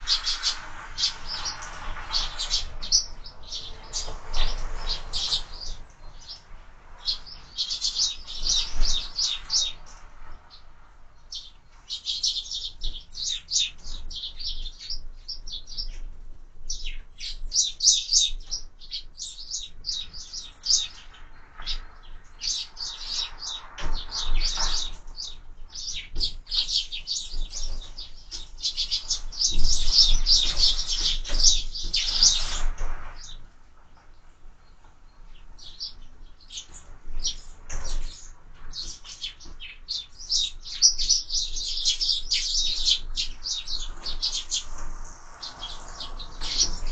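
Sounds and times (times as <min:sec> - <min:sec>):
sparrows chirping: 0:00.0 - 0:33.5, 0:34.6 - 0:46.9.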